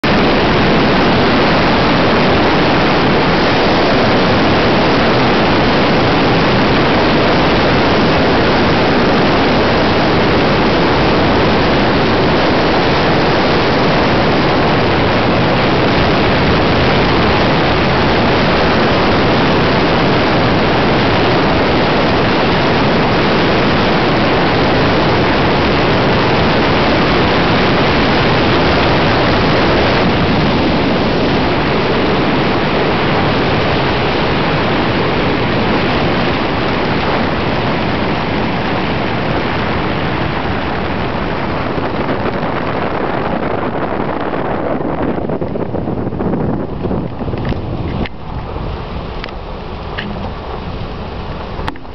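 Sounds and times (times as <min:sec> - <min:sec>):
tyre noise on road: 0:00.0 - 0:51.9
wind rushing past car: 0:00.0 - 0:51.9.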